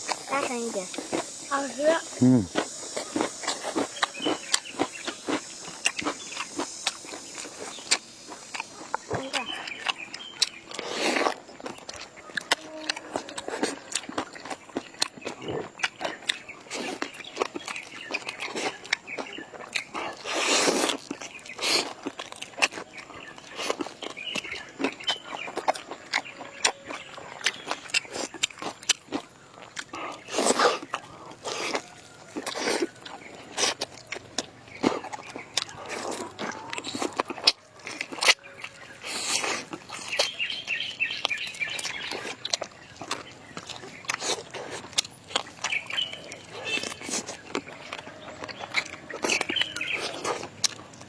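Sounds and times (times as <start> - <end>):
people chewing noisily: 0.0 - 51.0.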